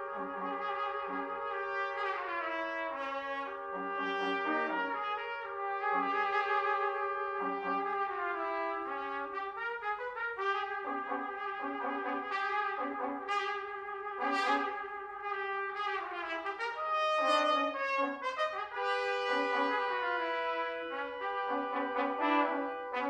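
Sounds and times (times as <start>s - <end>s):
brass ensemble playing: 0.0s - 23.0s.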